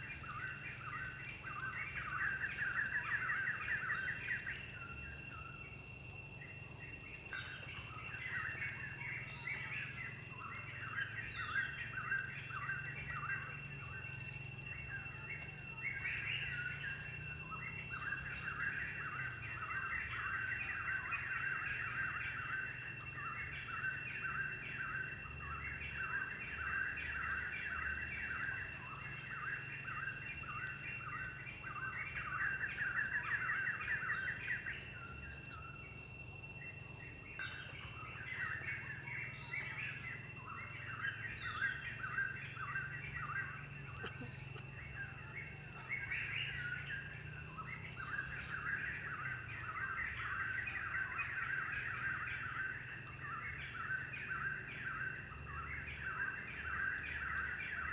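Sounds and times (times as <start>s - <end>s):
forest birds chirping: 0.0s - 57.9s
high-pitched insect drone: 0.0s - 57.9s.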